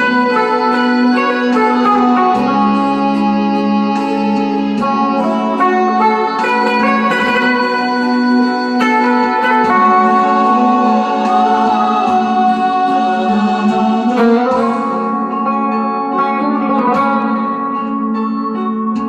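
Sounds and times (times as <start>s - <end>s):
guitar playing slow melody: 0.0s - 19.0s
sustained accompaniment: 0.0s - 19.0s.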